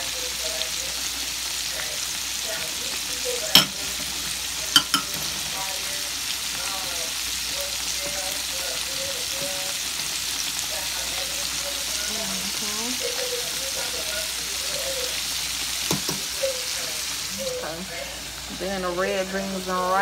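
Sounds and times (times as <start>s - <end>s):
pork chops sizzling in oil: 0.0s - 20.0s.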